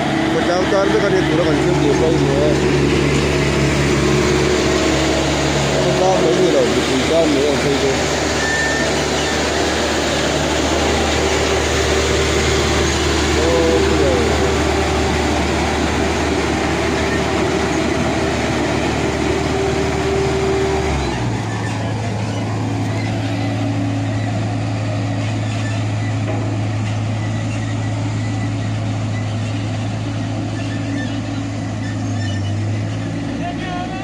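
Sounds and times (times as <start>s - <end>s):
road roller engine humming: 0.0s - 34.0s.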